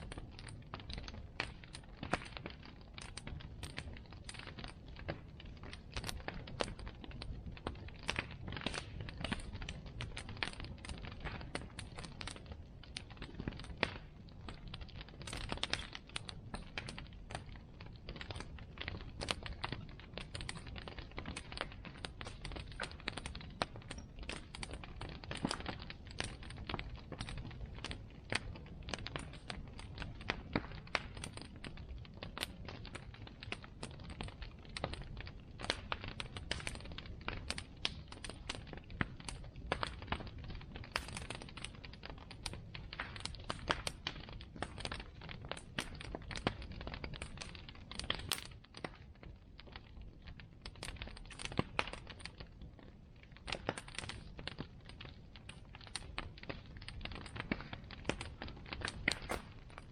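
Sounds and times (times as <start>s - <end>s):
flames rushing: 0.0s - 49.4s, 50.1s - 59.9s
burning wood snapping and popping: 0.0s - 59.9s.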